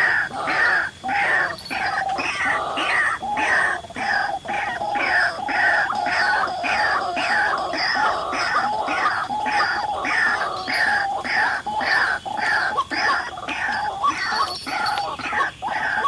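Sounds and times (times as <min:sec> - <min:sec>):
waterhen harsh croaking calls: 0:00.0 - 0:16.0.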